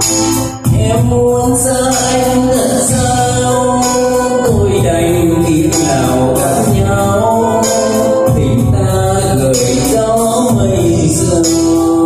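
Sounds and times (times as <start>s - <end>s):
amplified backing music: 0.0s - 12.0s
man singing into microphone: 0.0s - 12.0s.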